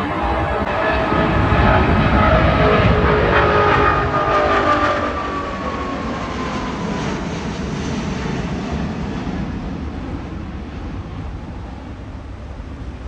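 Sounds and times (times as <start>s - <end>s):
falling engine whine: 0.0s - 13.0s
jet engines rumbling overhead: 0.0s - 13.0s.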